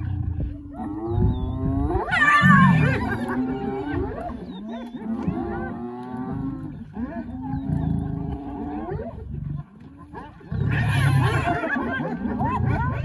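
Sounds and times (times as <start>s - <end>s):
low rumble: 0.0s - 11.6s
lions growling: 0.0s - 13.0s.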